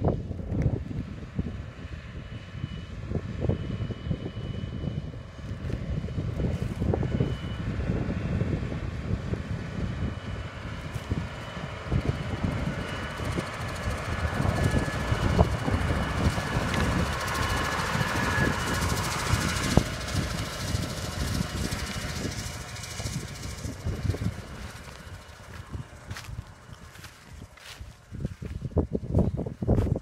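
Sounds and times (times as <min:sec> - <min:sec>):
tractor engine rumble: 0:00.0 - 0:30.0
fertilizer spreader noise: 0:05.2 - 0:30.0.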